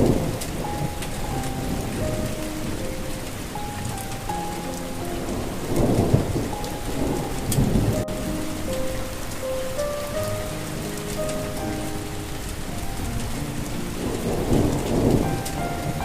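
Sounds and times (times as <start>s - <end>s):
slow soft melody: 0.0s - 16.0s
steady rain: 0.0s - 16.0s
thunder rumbling: 0.0s - 16.0s.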